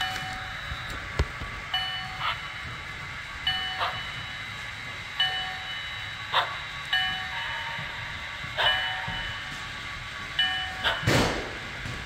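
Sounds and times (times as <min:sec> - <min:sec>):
locomotive bell ringing: 0:00.0 - 0:01.0, 0:01.7 - 0:11.1.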